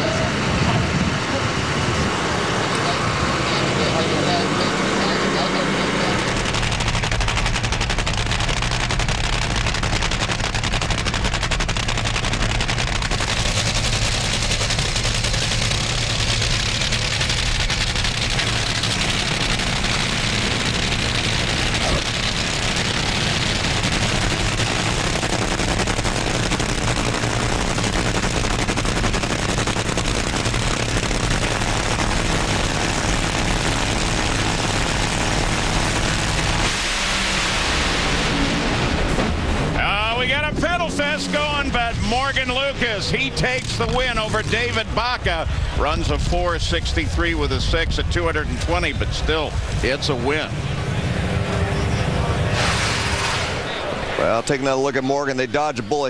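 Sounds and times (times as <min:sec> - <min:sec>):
dragster engines crackling: 0:00.0 - 0:56.0.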